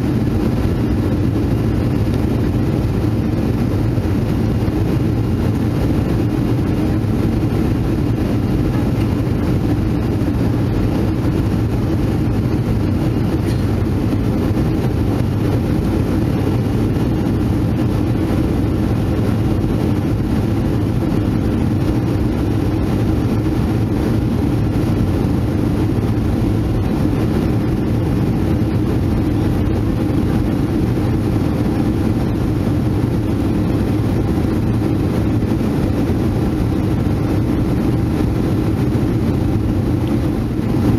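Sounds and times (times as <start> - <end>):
air rushing along fuselage: 0.0 - 40.9
airplane cabin engine drone: 0.0 - 40.9.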